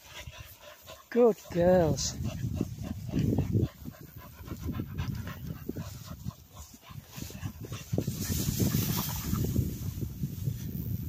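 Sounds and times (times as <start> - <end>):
dog panting: 0.0 - 9.4
hissing rustle: 0.0 - 11.0.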